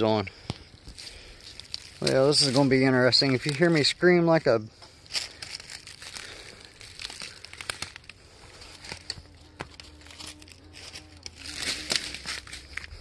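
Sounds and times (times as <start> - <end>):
faint steady hum: 0.0 - 13.0
footsteps crunching through dry leaves: 0.0 - 13.0.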